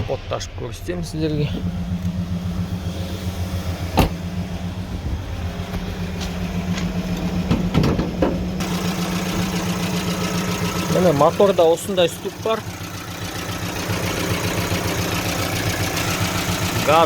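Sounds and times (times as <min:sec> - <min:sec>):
van engine idling: 0:00.0 - 0:17.0.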